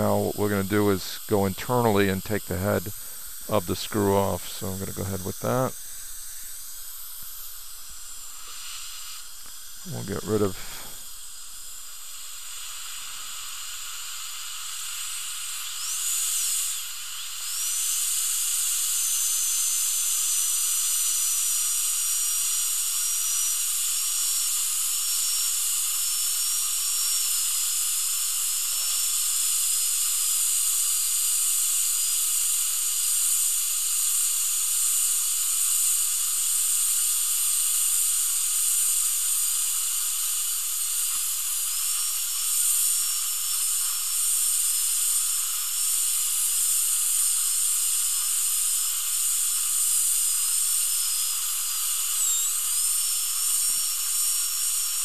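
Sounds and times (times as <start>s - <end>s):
dental drill whining: 0.0s - 55.0s.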